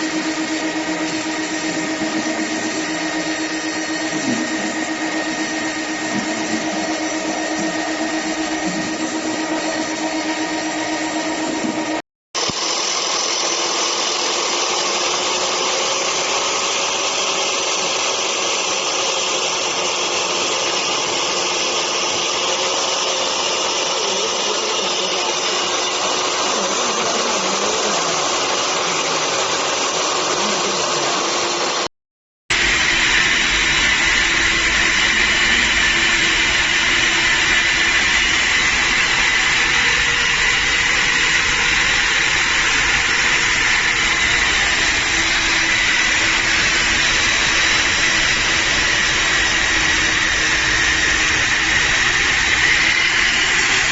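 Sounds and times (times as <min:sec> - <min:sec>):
concrete floor grinder drone: 0:00.0 - 0:31.9, 0:32.5 - 0:53.9.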